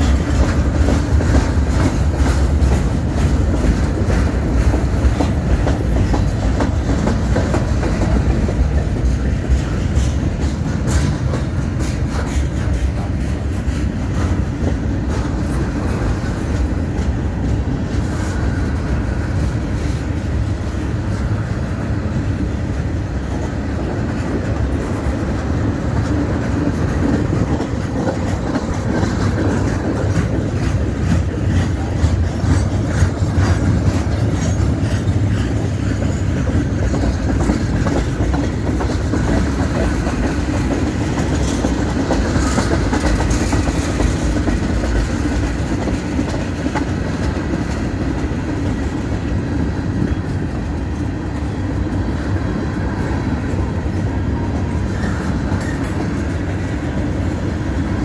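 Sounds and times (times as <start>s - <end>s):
freight car wheels rumbling on rails: 0.0s - 58.0s.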